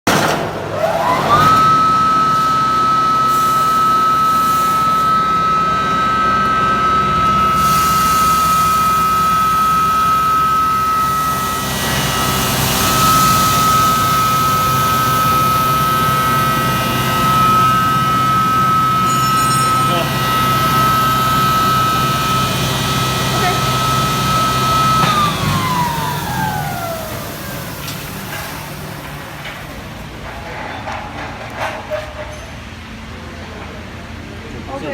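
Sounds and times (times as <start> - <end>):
grinding machine motor whine: 0.7 - 30.4.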